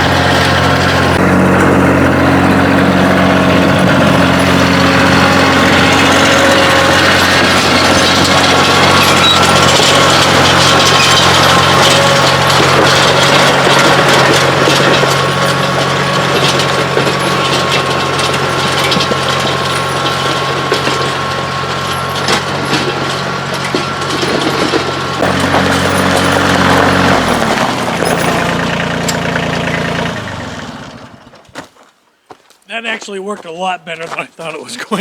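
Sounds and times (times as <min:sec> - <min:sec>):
tractor diesel engine running: 0:00.0 - 0:31.6, 0:32.8 - 0:35.0.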